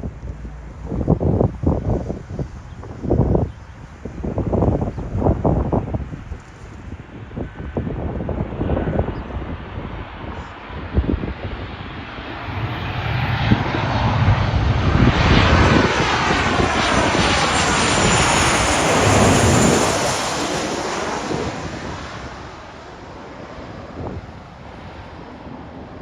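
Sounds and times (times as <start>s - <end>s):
airplane flying past: 0.0s - 26.0s.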